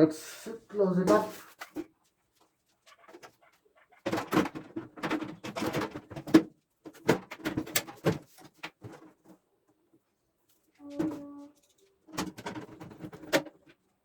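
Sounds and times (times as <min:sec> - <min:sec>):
clattering knocks and scraping: 0:01.1 - 0:09.5, 0:10.5 - 0:13.8.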